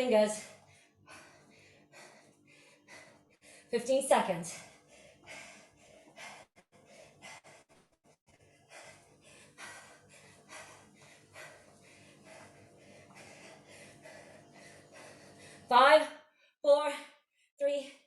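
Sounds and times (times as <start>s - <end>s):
woman breathing hard: 0.2s - 3.8s, 4.4s - 15.7s.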